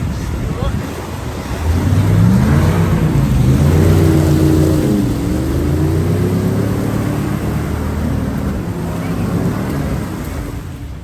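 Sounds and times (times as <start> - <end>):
vehicle engine under load: 0.0 - 11.0.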